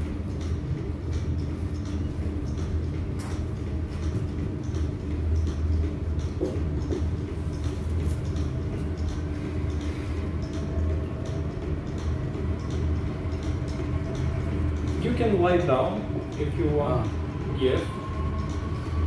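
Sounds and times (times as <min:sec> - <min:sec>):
faint regular ticking: 0:00.0 - 0:19.0
machine humming: 0:00.0 - 0:19.0.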